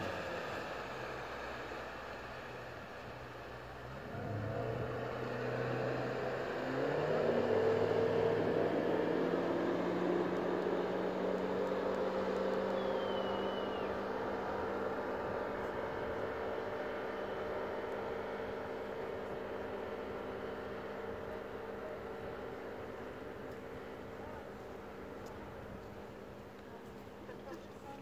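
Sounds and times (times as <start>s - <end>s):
outboard motor revving: 0.0s - 25.7s.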